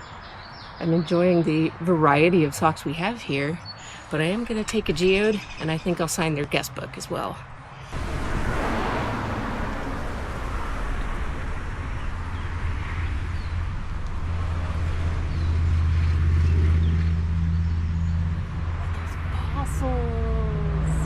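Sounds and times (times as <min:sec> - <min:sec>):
low engine hum: 0:01.1 - 0:21.0.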